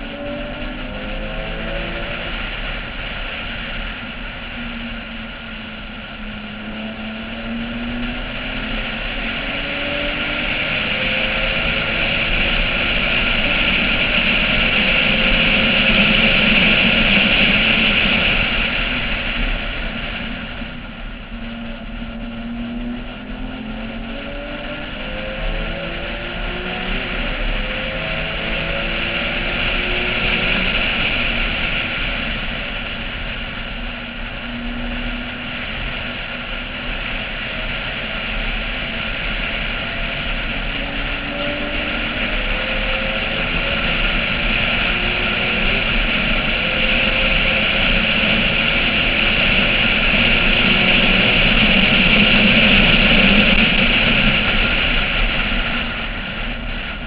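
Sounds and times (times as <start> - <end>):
race car engine revving: 0.0 - 57.0
wind noise: 0.0 - 57.0.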